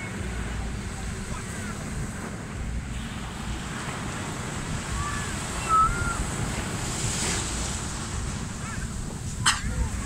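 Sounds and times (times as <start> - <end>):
ocean surf washing on beach: 0.0 - 10.0
wind buffeting microphone: 0.0 - 10.0.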